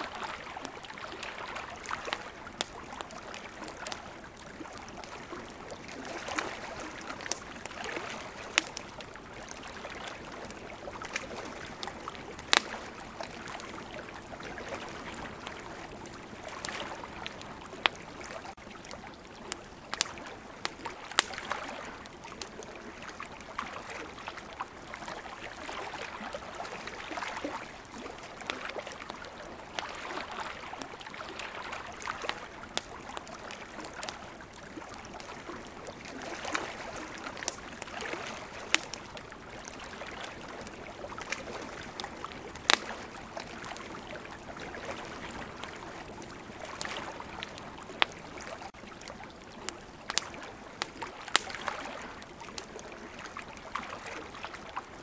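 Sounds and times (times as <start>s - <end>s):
ocean waves: 0.0s - 18.6s, 22.8s - 49.0s, 49.9s - 55.0s
campfire crackling and popping: 0.0s - 55.0s.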